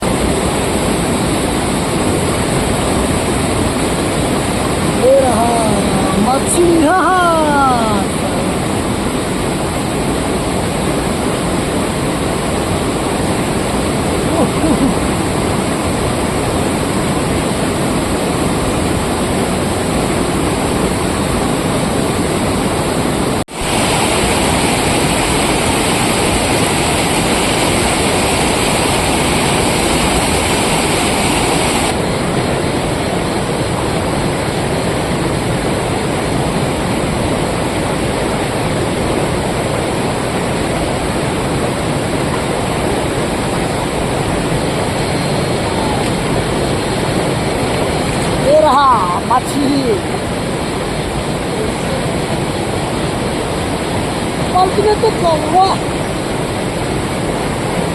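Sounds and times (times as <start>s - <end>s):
loud rushing noise: 0.0s - 57.9s.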